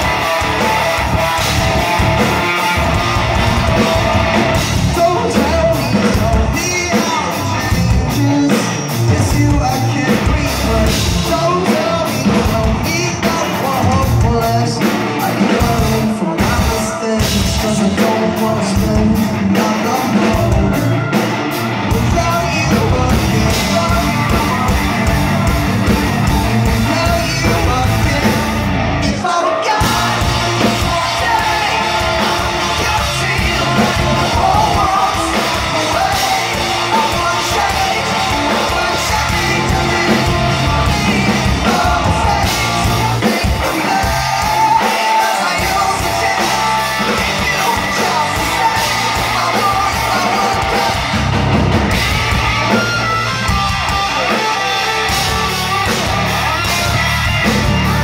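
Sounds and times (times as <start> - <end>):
live hard rock band: 0.0 - 58.0
singer yelling and singing: 0.0 - 58.0.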